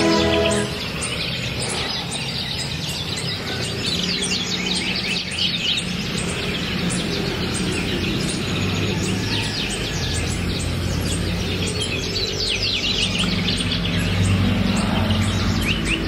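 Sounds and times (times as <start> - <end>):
birds chirping and trilling: 0.0 - 16.0.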